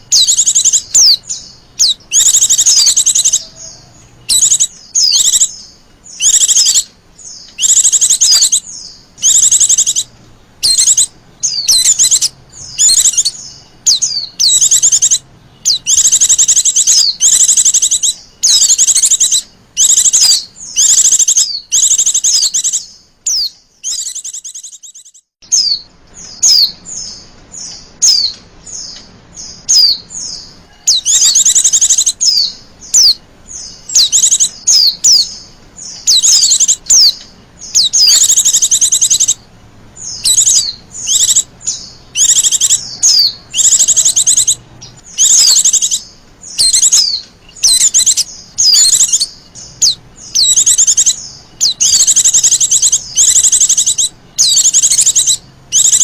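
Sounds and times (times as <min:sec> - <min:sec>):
bird high rapid trills: 0:00.0 - 0:56.0
down-slurred bird chirps: 0:00.0 - 0:56.0.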